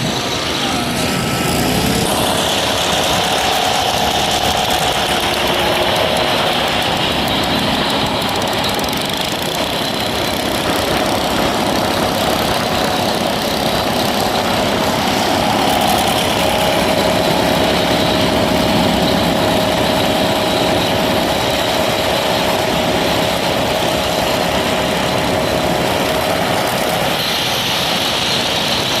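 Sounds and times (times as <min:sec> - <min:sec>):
machine engine humming: 0:00.0 - 0:29.0.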